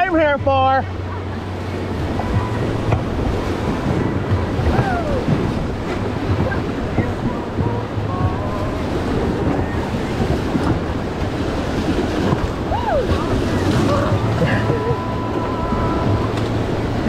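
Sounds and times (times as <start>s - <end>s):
whitewater rushing: 0.0s - 17.0s.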